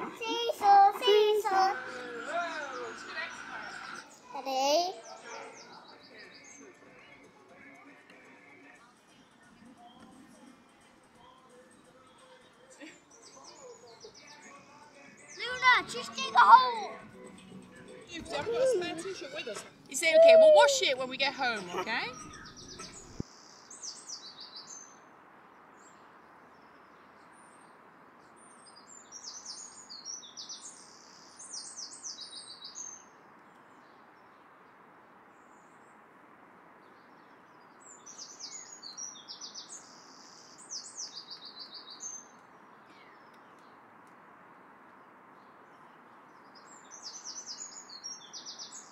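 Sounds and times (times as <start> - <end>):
faint background hiss: 0.0 - 48.9
songbird singing: 0.0 - 48.9.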